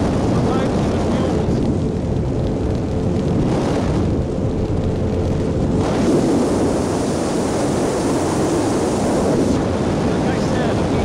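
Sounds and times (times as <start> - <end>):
motorboat engine running: 0.0 - 11.0
wind rumble on microphone: 0.0 - 11.0.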